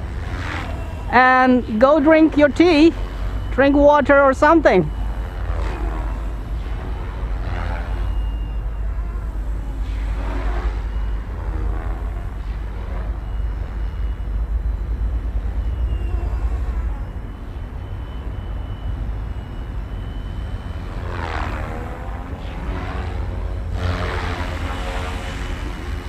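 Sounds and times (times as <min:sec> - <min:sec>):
rc helicopter rotor whine: 0:00.0 - 0:26.0.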